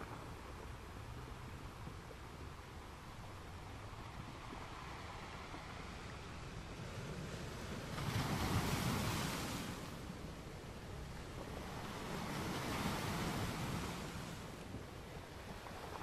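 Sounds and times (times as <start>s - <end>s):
water sloshing and rushing: 0.0s - 16.0s.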